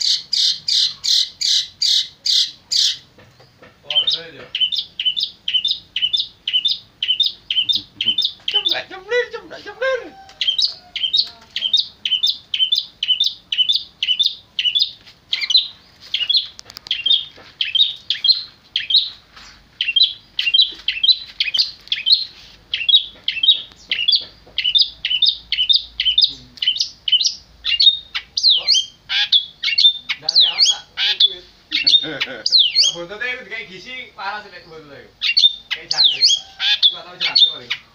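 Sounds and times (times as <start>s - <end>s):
bird chirping: 0.0s - 37.9s.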